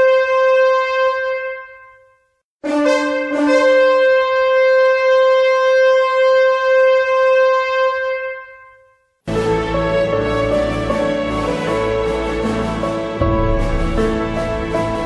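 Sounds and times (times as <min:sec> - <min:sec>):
background music: 0:00.0 - 0:15.0
shofar blast: 0:00.0 - 0:15.0.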